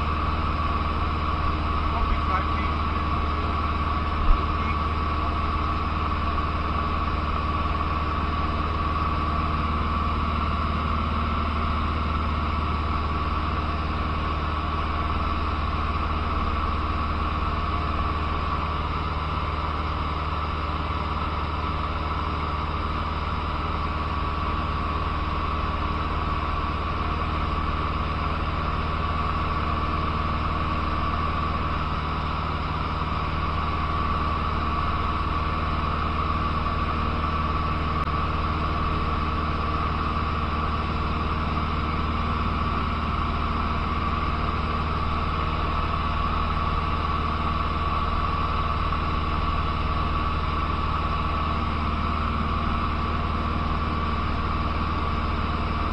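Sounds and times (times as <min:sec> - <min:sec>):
small plane engine droning: 0:00.0 - 0:55.9.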